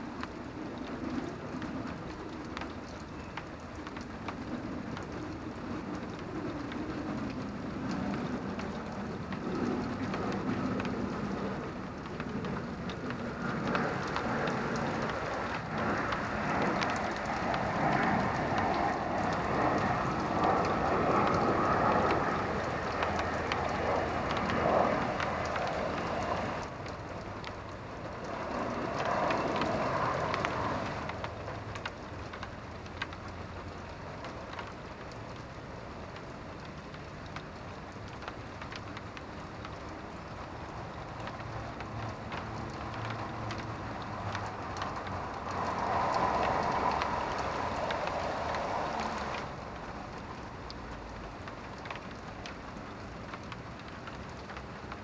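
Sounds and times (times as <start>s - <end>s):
rain falling steadily: 0.0s - 55.0s
raindrops ticking on hard surface: 0.0s - 55.0s.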